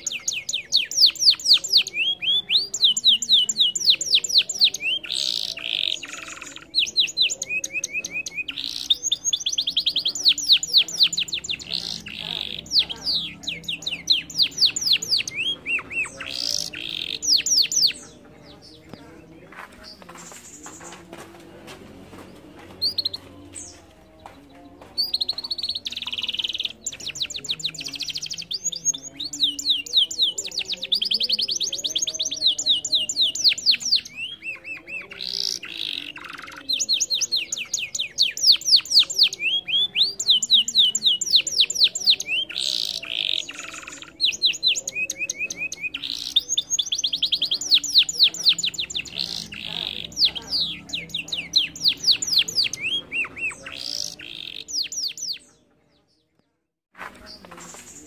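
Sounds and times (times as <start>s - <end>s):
canary singing trills: 0.0s - 21.0s, 22.1s - 56.6s.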